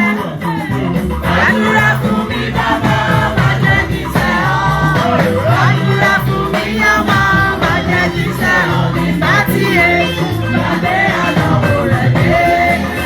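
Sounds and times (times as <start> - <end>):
steady beat and bass line: 0.0 - 13.0
voices singing: 0.0 - 13.0.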